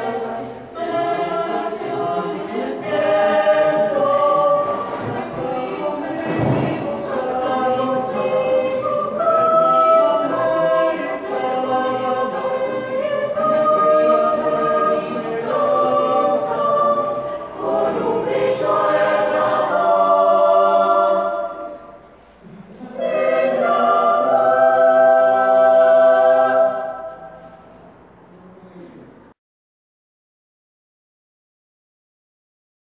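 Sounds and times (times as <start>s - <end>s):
choir singing unaccompanied: 0.0s - 28.2s.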